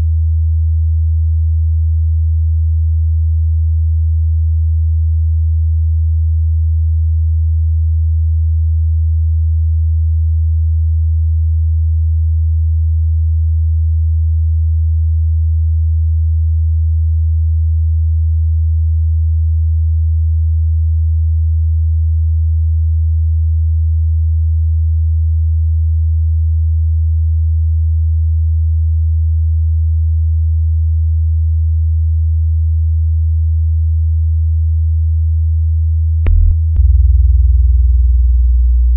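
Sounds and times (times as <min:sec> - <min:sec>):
low electronic sine tone: 0:00.0 - 0:38.9.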